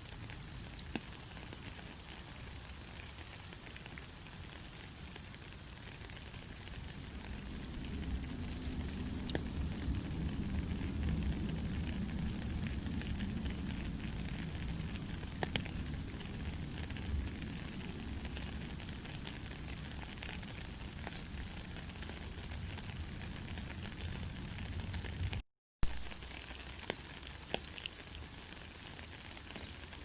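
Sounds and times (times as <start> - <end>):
faint crackles and clicks: 0.0 - 30.0.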